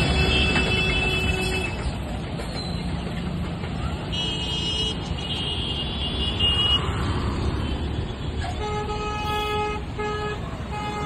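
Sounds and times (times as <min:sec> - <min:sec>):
heavy truck and traffic rumbling: 0:00.0 - 0:11.0.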